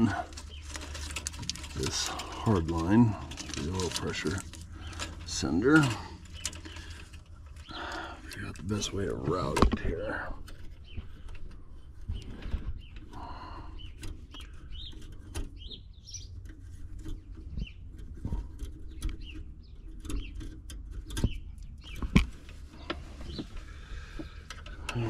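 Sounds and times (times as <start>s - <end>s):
clicks and knocks from handling wiring: 0.0s - 25.0s
small birds chirping: 0.0s - 25.0s.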